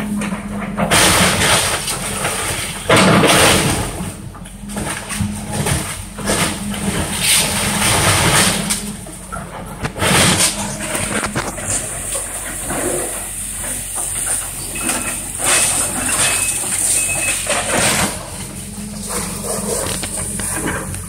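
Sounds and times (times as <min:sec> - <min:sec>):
debris crashing down: 0:00.0 - 0:21.0
diesel engine running: 0:00.0 - 0:21.0
wood cracking: 0:00.6 - 0:21.0.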